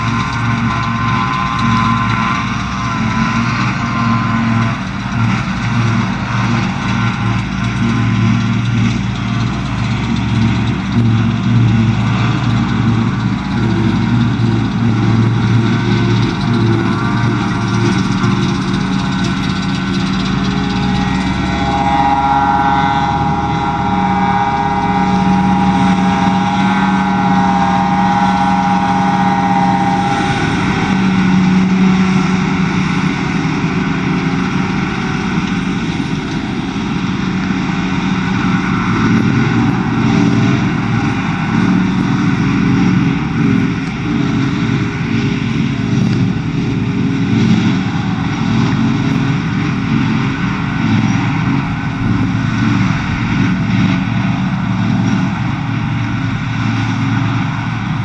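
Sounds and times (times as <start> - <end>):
forage harvester engine drone: 0.0 - 58.0
high whine: 0.0 - 58.0.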